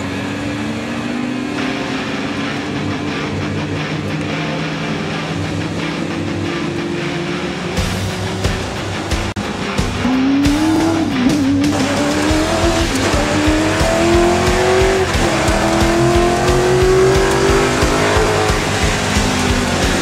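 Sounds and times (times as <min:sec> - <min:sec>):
car engine accelerating: 0:00.0 - 0:20.0
music: 0:00.0 - 0:20.0.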